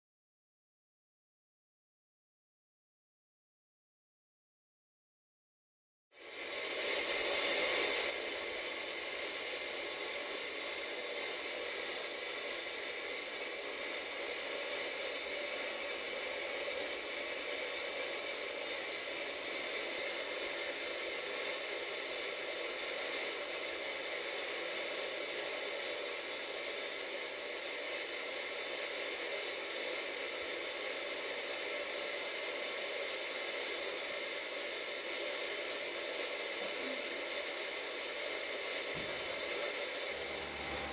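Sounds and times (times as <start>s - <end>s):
steam hissing from safety valve: 6.2s - 40.9s.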